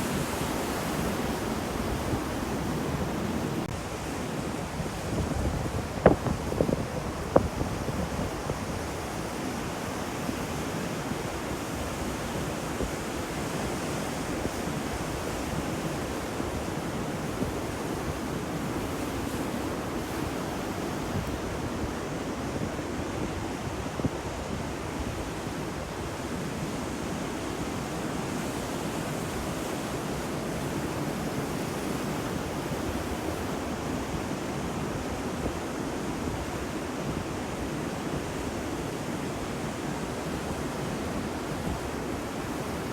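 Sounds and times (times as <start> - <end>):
ocean waves washing on shore: 0.0 - 42.9.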